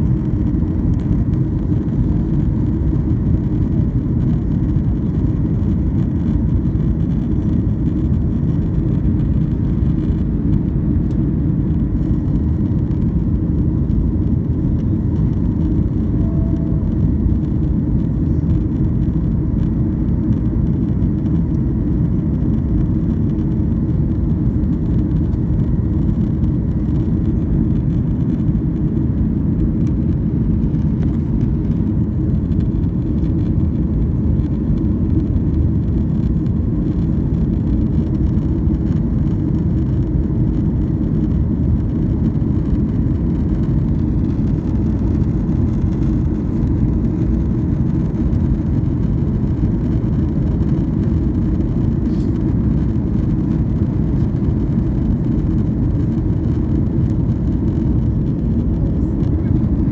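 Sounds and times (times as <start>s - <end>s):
jet engine and airflow noise in cabin: 0.0s - 59.9s.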